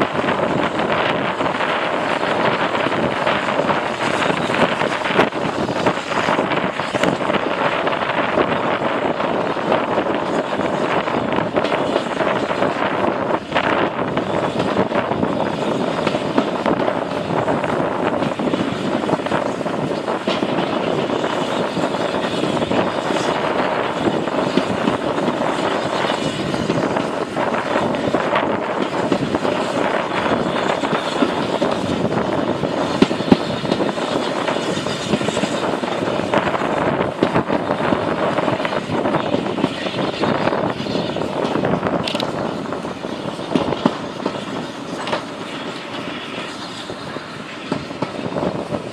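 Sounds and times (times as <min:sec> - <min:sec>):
train wheels on rails: 0:00.0 - 0:48.9.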